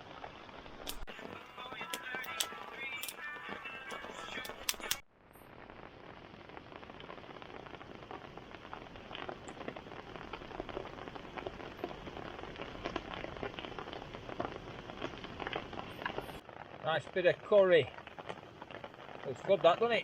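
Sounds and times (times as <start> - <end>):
rain drops ticking on surface: 0.0 - 20.0.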